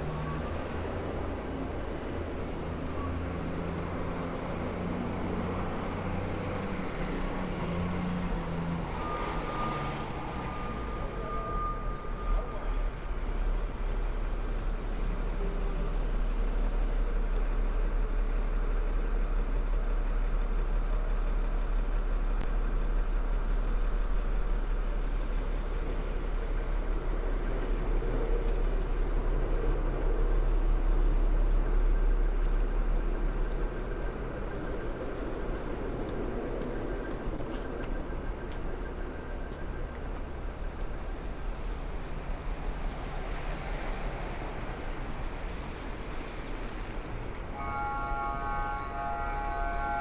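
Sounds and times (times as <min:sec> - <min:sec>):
rumble of passing vehicles: 0:00.0 - 0:50.0.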